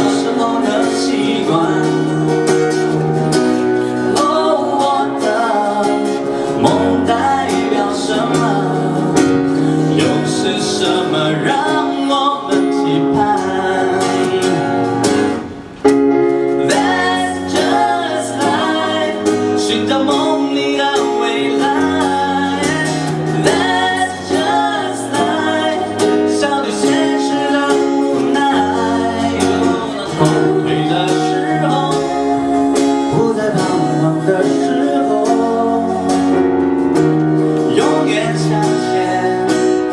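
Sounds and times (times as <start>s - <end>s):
live band playing pop song: 0.0s - 39.9s
person singing: 0.0s - 39.9s.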